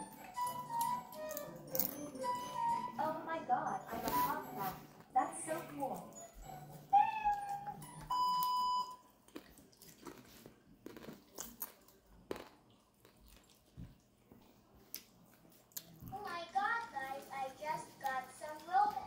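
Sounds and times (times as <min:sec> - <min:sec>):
dog chewing popcorn: 0:00.0 - 0:02.7, 0:05.9 - 0:19.0.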